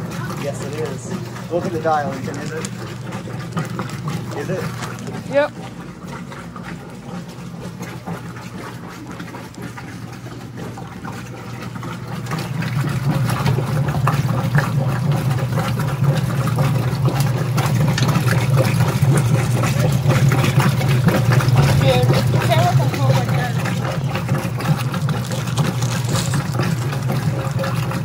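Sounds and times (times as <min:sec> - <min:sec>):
washing machine motor hum: 0:00.0 - 0:28.0
water noise in washer tub: 0:00.0 - 0:28.0.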